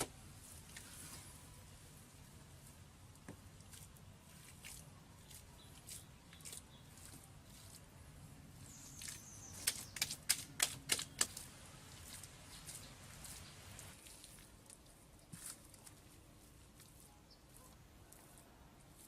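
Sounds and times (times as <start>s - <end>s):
faint background noise: 0.0s - 19.0s.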